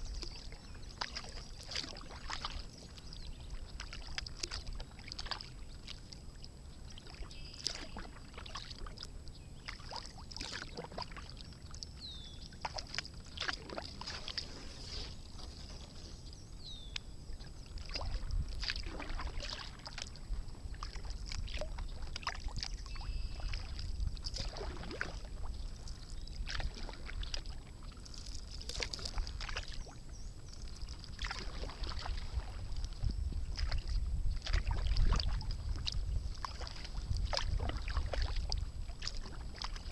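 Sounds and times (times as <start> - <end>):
kayak paddle splashing water: 0.0 - 39.9
wind rumble on microphone: 0.0 - 39.9.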